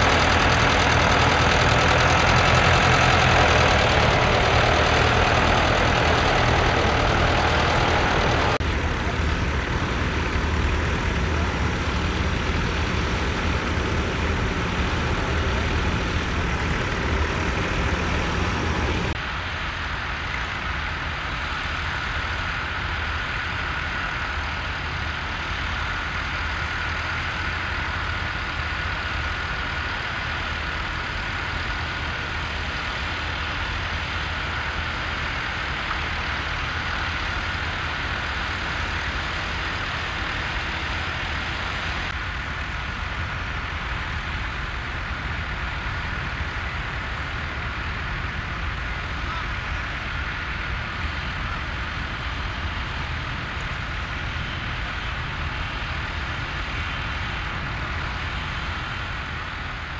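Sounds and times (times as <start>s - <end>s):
faint steady whine: 0.0s - 59.9s
tractor diesel engine running: 0.0s - 59.9s.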